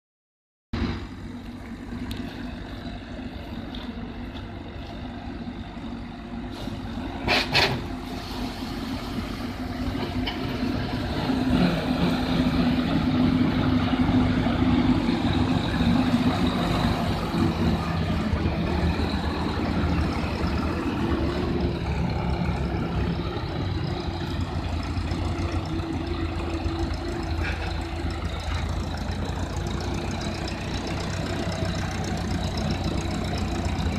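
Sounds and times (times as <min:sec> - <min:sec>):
tractor engine: 0:00.7 - 0:33.9.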